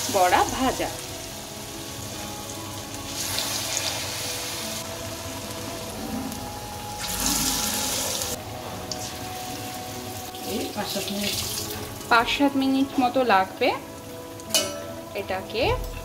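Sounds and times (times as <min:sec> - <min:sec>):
faint background music: 0:00.0 - 0:16.0
fritters sizzling in hot oil: 0:00.0 - 0:16.0.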